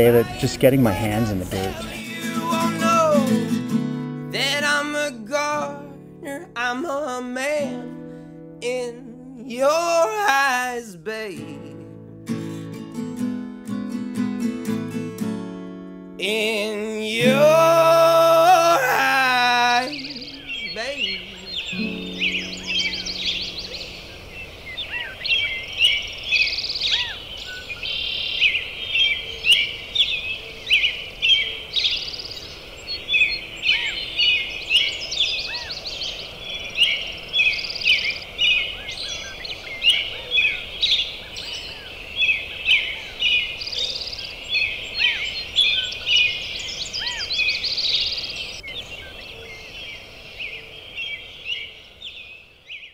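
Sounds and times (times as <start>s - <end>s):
songbirds chirping and trilling: 0.0s - 52.9s.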